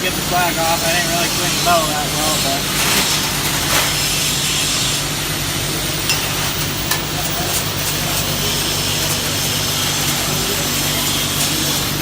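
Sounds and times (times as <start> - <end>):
slag scraping off weld: 0.4 - 5.3, 6.0 - 12.0.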